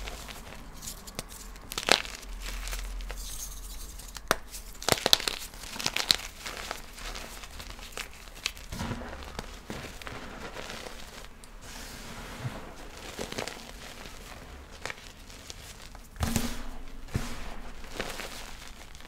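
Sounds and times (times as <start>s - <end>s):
chalk crunching: 0.0s - 19.0s.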